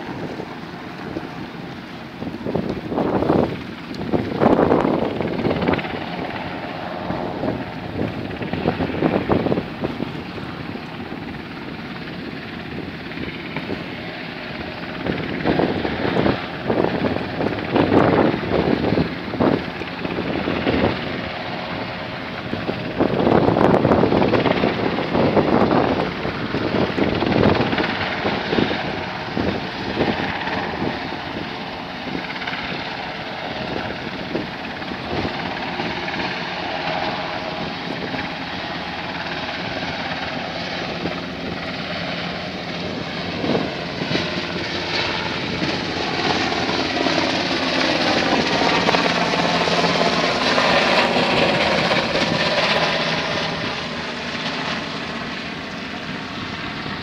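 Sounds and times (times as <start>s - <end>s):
helicopter flying: 0.0s - 57.0s.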